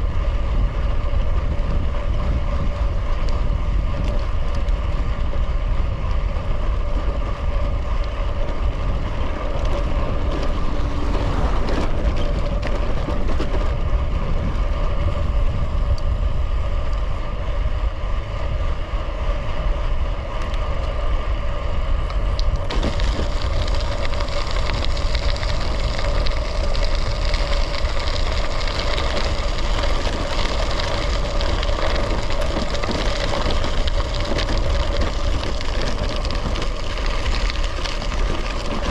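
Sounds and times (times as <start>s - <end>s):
tyres rolling on road: 0.0s - 38.9s
wind buffeting microphone: 0.0s - 38.9s.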